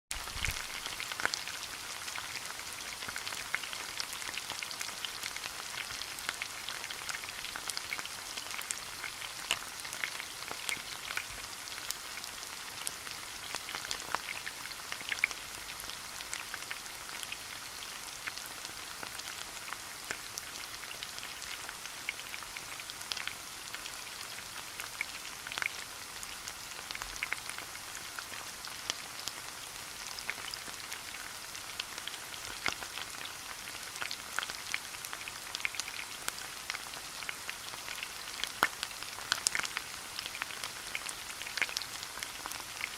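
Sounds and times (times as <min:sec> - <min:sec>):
food sizzling in frying pan: 0:00.1 - 0:42.9.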